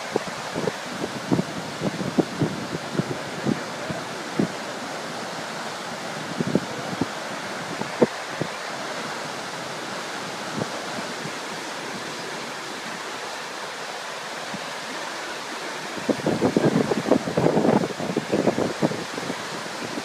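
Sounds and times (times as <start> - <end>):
wind buffeting microphone: 0.0 - 15.0, 15.7 - 20.0
water pouring down walls: 0.0 - 20.0.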